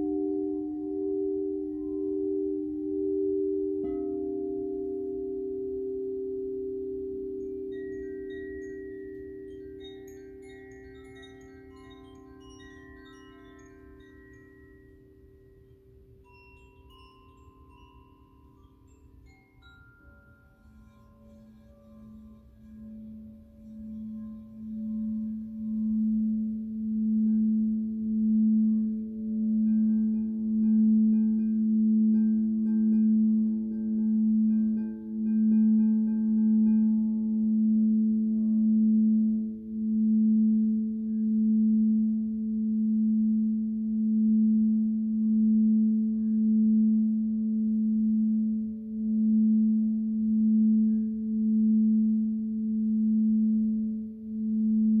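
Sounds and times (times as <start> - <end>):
singing bowl higher tone: 0.0 - 55.0
singing bowl low hum: 0.0 - 55.0.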